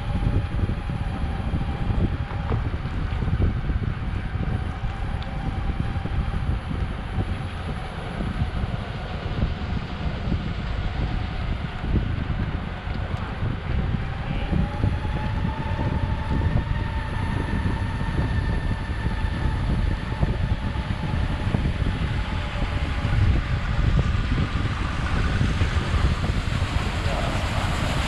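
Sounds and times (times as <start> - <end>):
faint electric motor whine: 0.0 - 28.0
skateboard wheels rumbling on pavement: 0.0 - 28.0.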